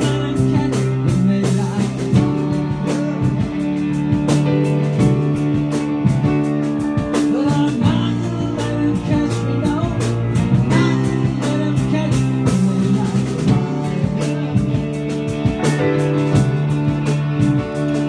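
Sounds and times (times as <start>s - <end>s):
drum kit beat: 0.0s - 18.0s
guitar: 0.0s - 18.0s
keyboard: 0.0s - 18.0s.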